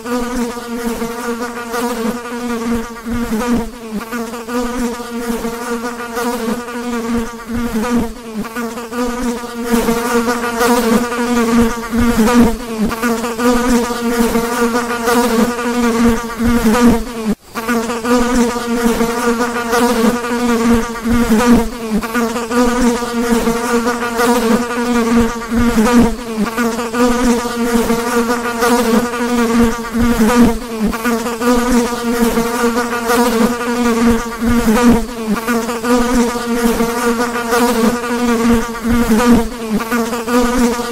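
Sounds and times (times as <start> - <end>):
fly buzzing: 0.0 - 40.9.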